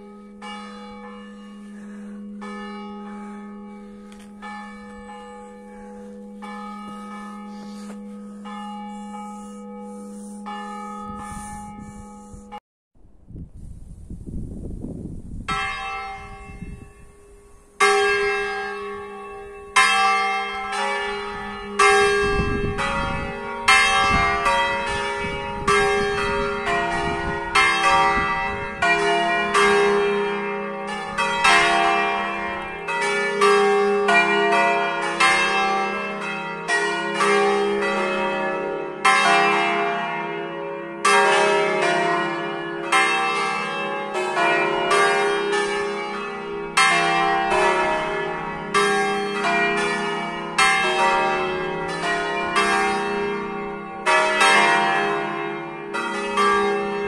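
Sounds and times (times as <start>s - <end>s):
church bells pealing: 0.0s - 12.6s, 15.4s - 57.0s.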